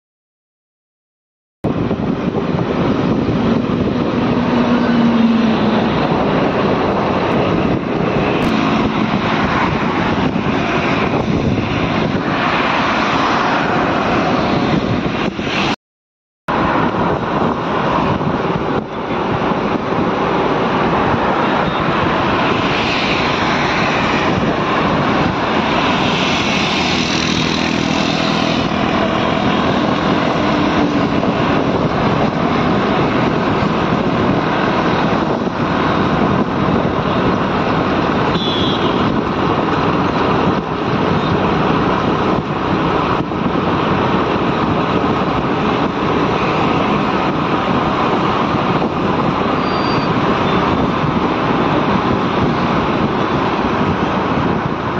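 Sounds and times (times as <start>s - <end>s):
wind noise on microphone: 1.6s - 15.8s, 16.5s - 54.9s.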